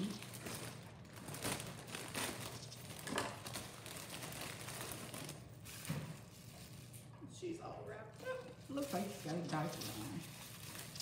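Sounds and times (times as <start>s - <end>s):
bubble wrap crinkling: 0.0s - 7.2s, 8.2s - 11.0s.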